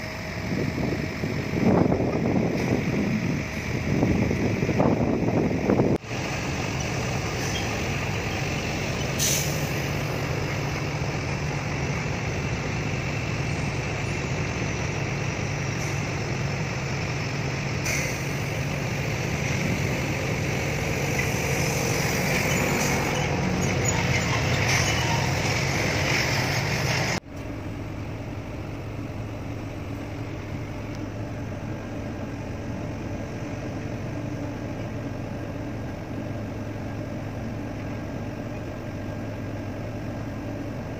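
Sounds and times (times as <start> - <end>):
vehicle engine hum from inside cabin: 0.0 - 40.9.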